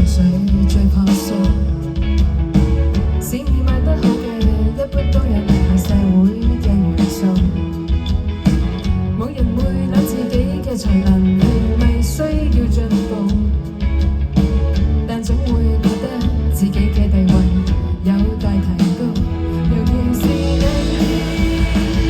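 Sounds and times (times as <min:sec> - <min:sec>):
drum beat: 0:00.0 - 0:13.7, 0:17.0 - 0:22.0
guitar: 0:00.0 - 0:22.0
heavy bass line: 0:00.0 - 0:22.0.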